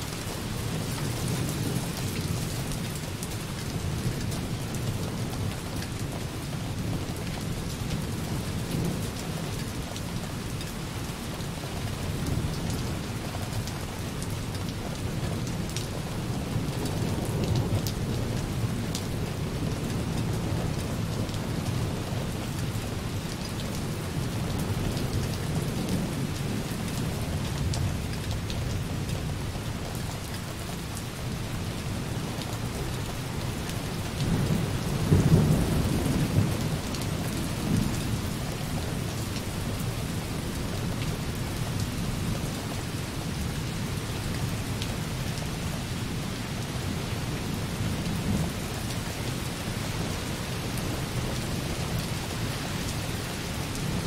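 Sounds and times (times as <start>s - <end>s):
light rain on a window: 0.0s - 54.0s.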